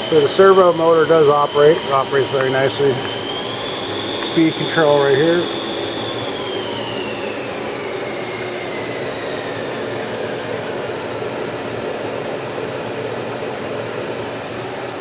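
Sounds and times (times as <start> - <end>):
milling machine spindle whine: 0.0 - 15.0
steady machine hum: 0.0 - 15.0.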